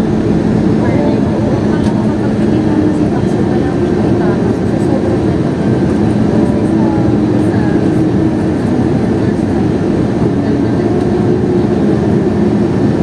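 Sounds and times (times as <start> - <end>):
airflow rushing: 0.0 - 13.0
jet engines rushing: 0.0 - 13.0.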